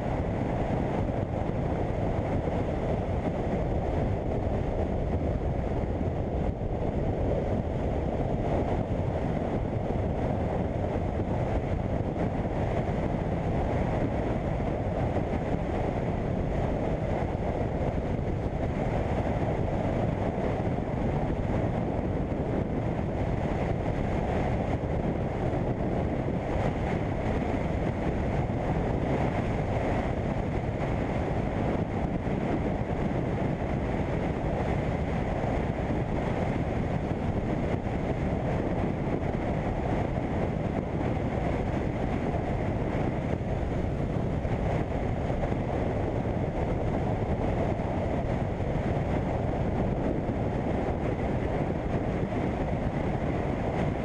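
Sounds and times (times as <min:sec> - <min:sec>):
motorcycle engine and road noise: 0:00.0 - 0:54.0
wind rushing over microphone: 0:00.0 - 0:54.0.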